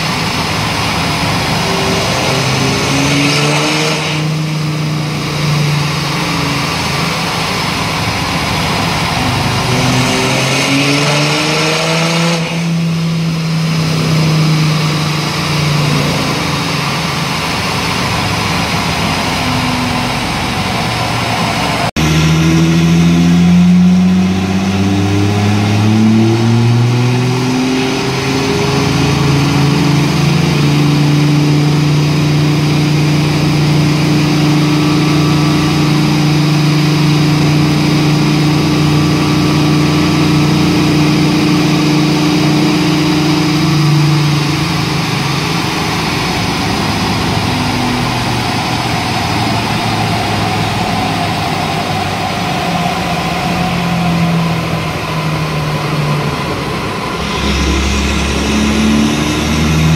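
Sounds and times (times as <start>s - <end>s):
diesel car engine under load: 0.0s - 59.9s.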